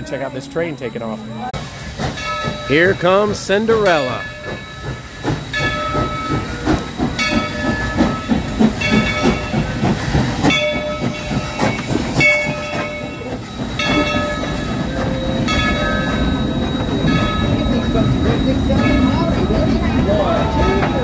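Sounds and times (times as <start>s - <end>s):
locomotive bell ringing: 0.0s - 21.0s
steam locomotive chuffing: 0.0s - 21.0s
train cars rumbling past: 0.0s - 21.0s.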